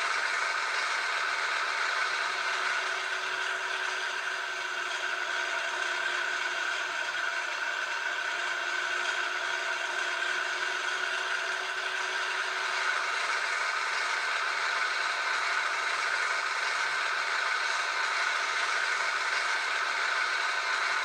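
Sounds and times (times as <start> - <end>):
thin model diesel engine sound: 0.0 - 21.0.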